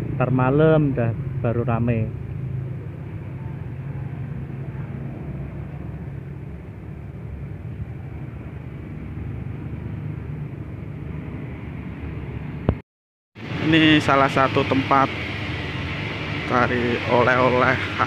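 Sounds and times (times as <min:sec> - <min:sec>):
motorcycle traffic: 0:00.0 - 0:12.8, 0:13.4 - 0:18.0.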